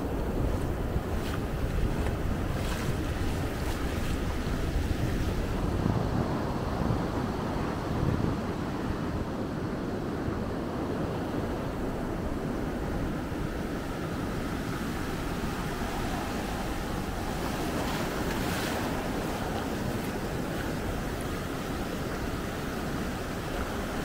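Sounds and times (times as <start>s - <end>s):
ocean surf breaking: 0.0s - 6.6s, 11.2s - 24.0s
wind rumble on microphone: 0.0s - 24.0s.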